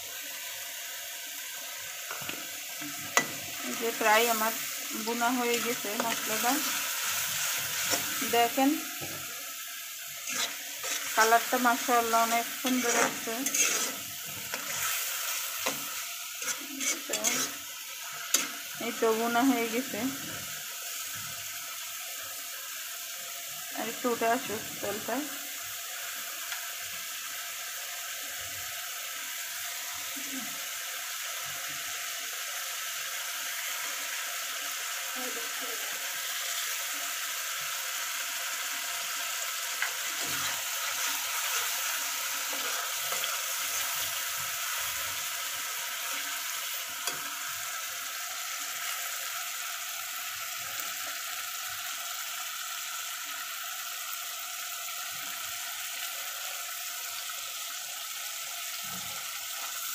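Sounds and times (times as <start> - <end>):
masala sizzling in hot oil: 0.0 - 59.9.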